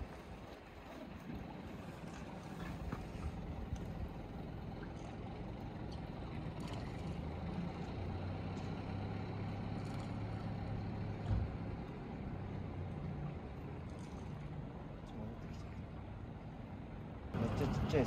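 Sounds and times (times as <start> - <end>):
outdoor background noise: 0.0 - 18.0
vehicle engine hum: 0.0 - 18.0.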